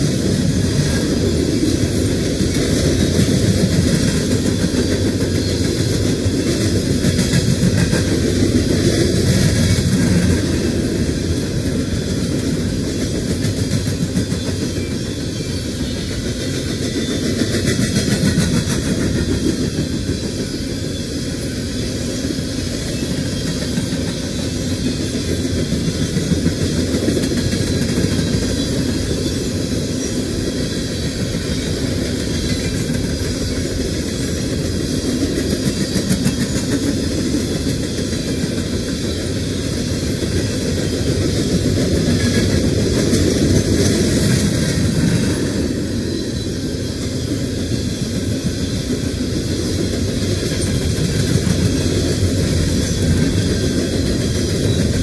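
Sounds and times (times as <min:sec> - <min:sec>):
train cars rolling on rails: 0:00.0 - 0:55.0.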